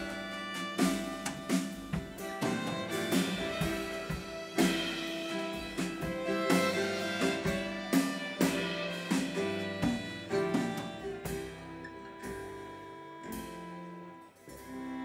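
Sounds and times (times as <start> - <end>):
folk band playing: 0.0 - 15.0.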